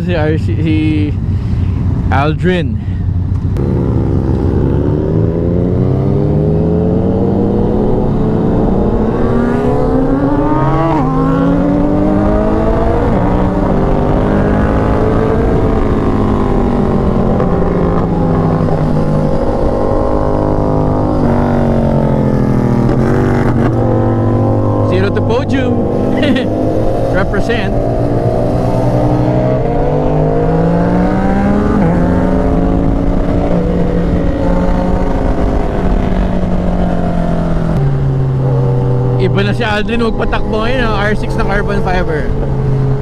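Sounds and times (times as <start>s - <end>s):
motorcycle engine revving: 3.2s - 43.0s.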